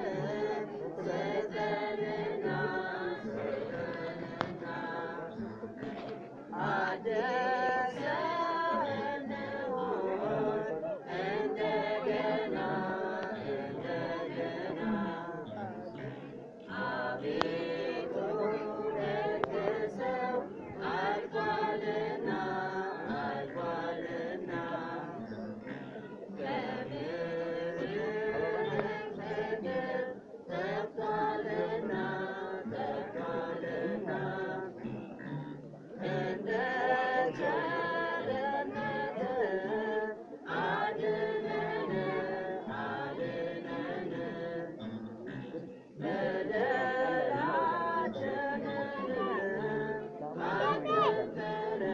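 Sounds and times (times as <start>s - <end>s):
person singing a cappella: 0.0s - 51.9s.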